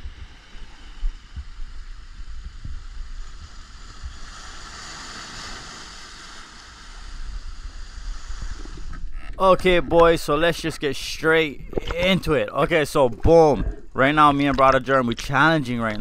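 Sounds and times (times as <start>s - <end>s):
surf washing over rocks: 0.0s - 13.4s
wind rumbling on microphone: 0.0s - 14.8s.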